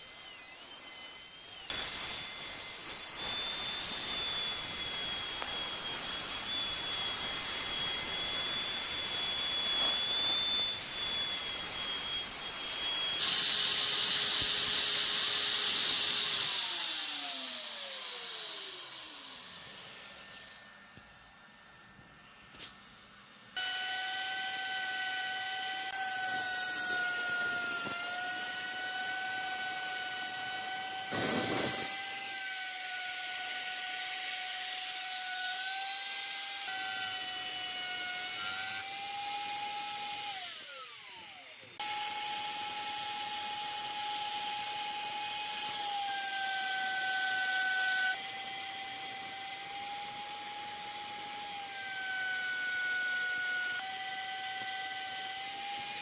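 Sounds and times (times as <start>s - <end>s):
power tool whining cutting wood: 0.0s - 22.0s, 23.6s - 56.0s.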